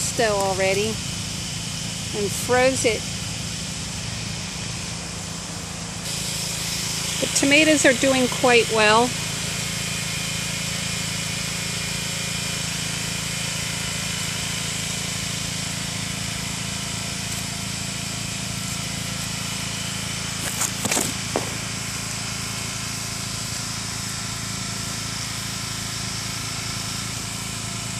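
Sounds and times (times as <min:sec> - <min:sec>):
pressure washer droning: 0:00.0 - 0:27.9.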